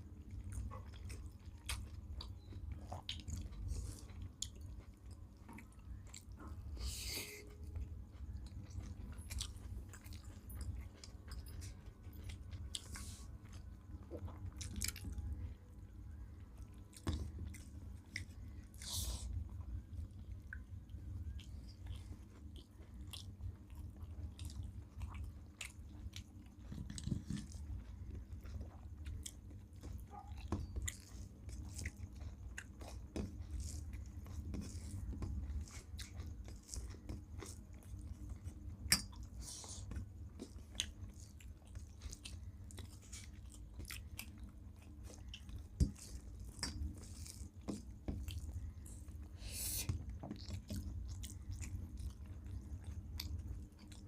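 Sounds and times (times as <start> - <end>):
people chewing food: 0.0 - 54.0.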